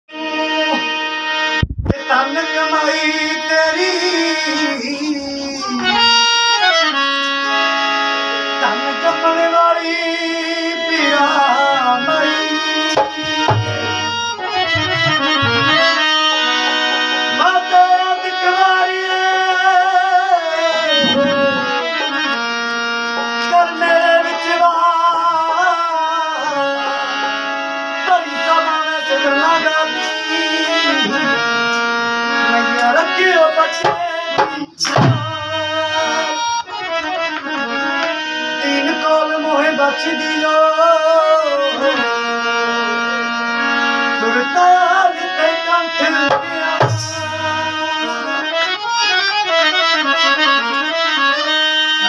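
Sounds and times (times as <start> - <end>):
harmonium chords: 0.1 - 52.0
man singing devotional melody: 0.1 - 52.0.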